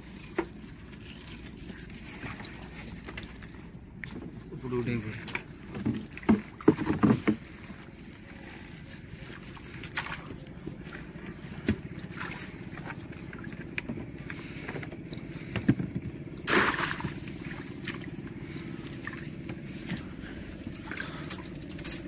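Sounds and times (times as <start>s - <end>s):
water sloshing and dripping: 0.0s - 22.0s.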